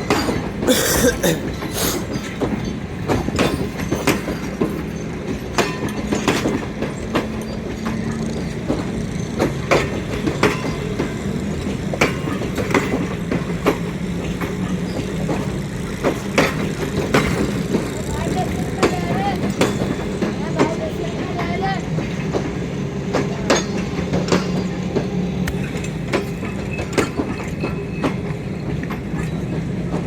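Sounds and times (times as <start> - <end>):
train wheels clicking over rail joints: 0.0 - 30.0.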